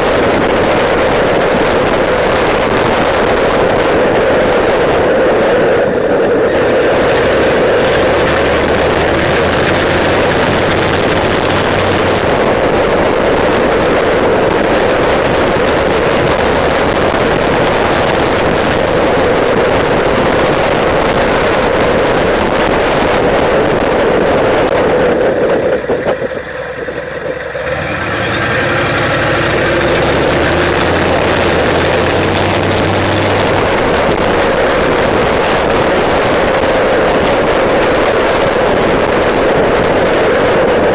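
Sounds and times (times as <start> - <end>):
diesel engine drone: 0.0 - 40.9
wind noise: 0.0 - 40.9.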